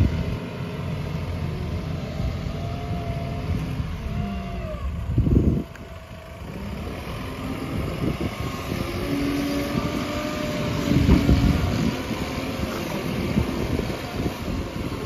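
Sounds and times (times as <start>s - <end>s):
backhoe loader diesel engine running: 0.0s - 15.0s.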